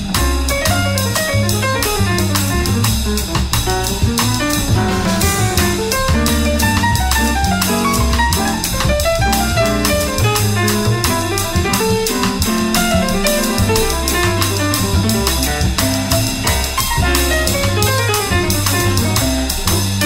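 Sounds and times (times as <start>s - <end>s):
drum kit beat: 0.0s - 20.0s
piano notes: 0.0s - 20.0s
walking double bass: 0.0s - 20.0s.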